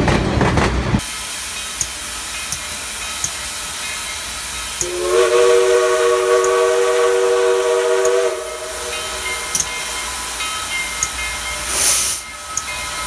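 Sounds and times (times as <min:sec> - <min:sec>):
steam hissing: 0:00.9 - 0:13.0
steam locomotive chime whistle: 0:01.6 - 0:13.0.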